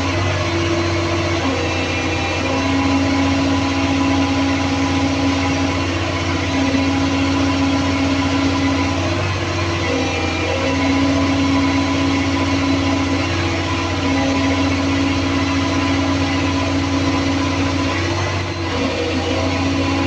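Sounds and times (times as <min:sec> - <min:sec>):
excavator diesel engine hum: 0:00.0 - 0:20.0.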